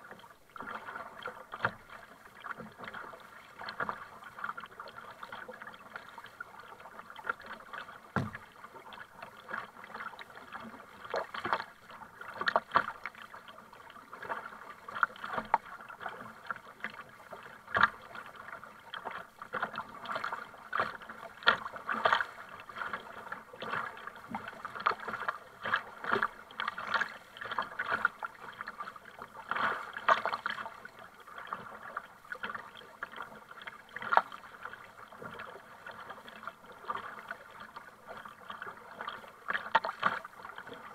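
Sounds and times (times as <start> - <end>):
kayak paddle splashing: 0.0 - 40.9.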